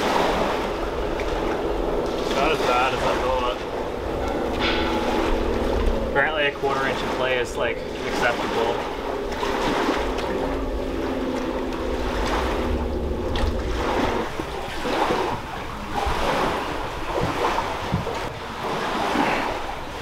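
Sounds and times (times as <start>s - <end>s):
steady low hum: 0.0s - 20.0s
waves washing against shore: 0.0s - 20.0s
wind buffeting the microphone: 0.0s - 20.0s.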